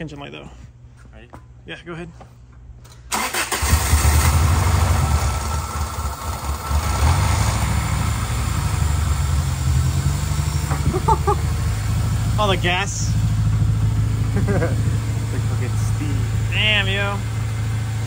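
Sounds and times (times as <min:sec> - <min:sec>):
car engine starting and running: 0:03.1 - 0:18.0.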